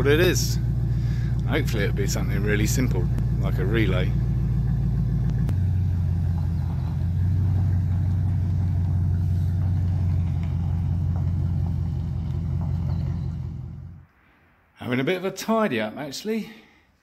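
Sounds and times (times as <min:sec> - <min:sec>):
truck engine idling: 0:00.0 - 0:14.1.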